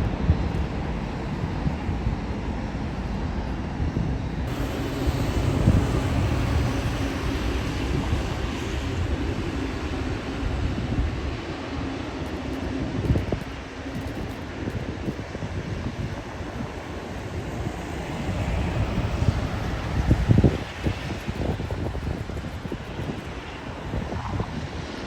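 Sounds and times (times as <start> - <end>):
jet engine rumble: 0.0 - 25.0
wind buffeting microphone: 0.0 - 25.0.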